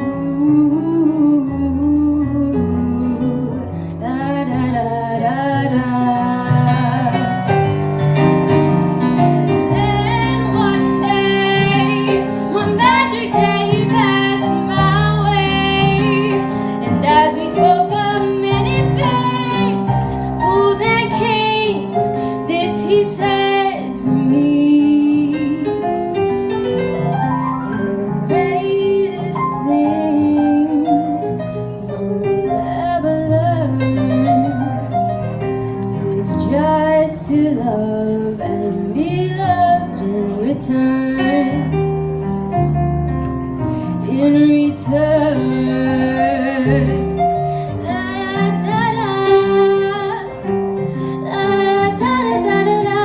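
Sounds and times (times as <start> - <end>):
woman singing wordless melody: 0.0 - 7.5, 9.6 - 25.8, 27.7 - 34.8, 35.9 - 41.8, 44.0 - 50.4, 51.2 - 53.0
piano accompaniment: 0.0 - 53.0.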